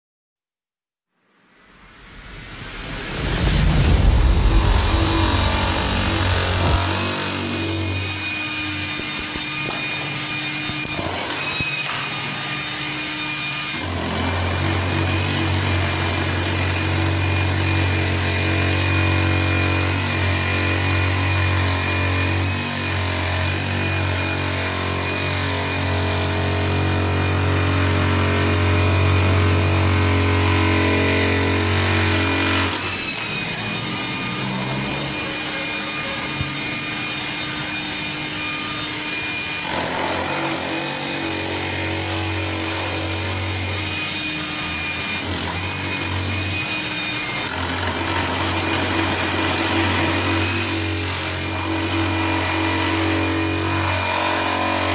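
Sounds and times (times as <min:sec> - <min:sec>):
demolition hammer chipping concrete: 0:05.0 - 0:54.9.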